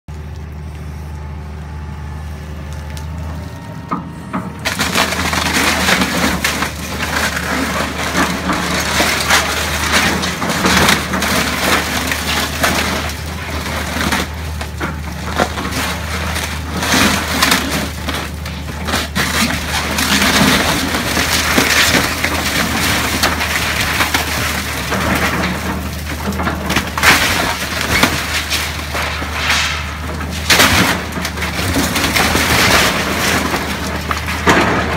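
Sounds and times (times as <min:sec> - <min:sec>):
excavator diesel engine running: 0:00.1 - 0:34.9
wooden roof cracking and splintering: 0:04.6 - 0:34.9.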